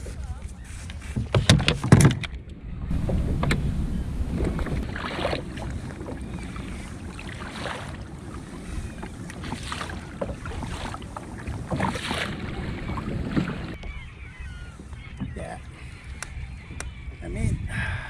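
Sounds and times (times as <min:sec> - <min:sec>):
water splashing against kayak: 0:00.0 - 0:17.0
wind rumble on microphone: 0:00.0 - 0:18.0.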